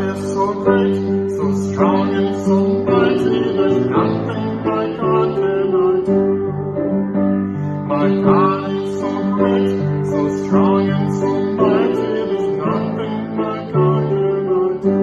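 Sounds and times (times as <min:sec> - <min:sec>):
person singing: 0:00.0 - 0:06.5, 0:07.6 - 0:15.0.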